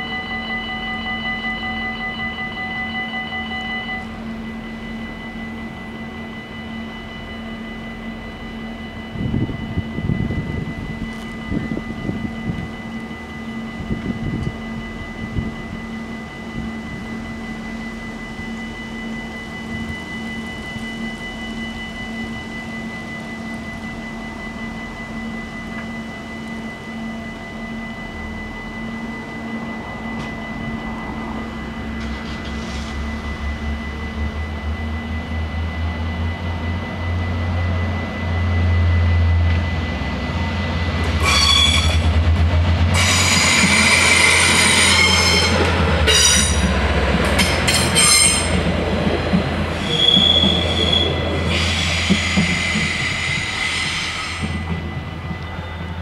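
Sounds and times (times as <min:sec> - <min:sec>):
crossing warning bells ringing: 0:00.0 - 0:56.0
train diesel rumble: 0:00.0 - 0:56.0
wheels squealing on rails: 0:00.0 - 0:56.0.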